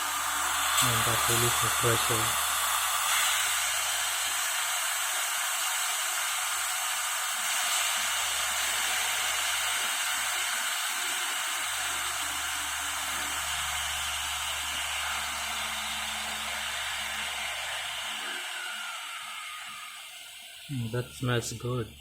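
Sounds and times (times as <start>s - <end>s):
steam hissing from pressure cooker: 0.0s - 22.0s.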